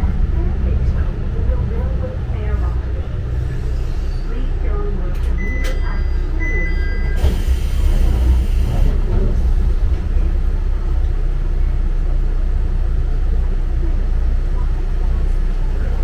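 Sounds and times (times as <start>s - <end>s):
diesel railcar rumble: 0.0s - 16.0s.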